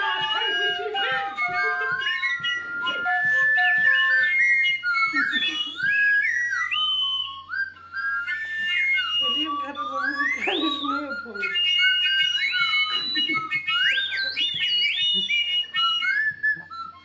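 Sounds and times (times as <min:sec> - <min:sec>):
wooden flutes and whistles playing: 0:00.0 - 0:17.0.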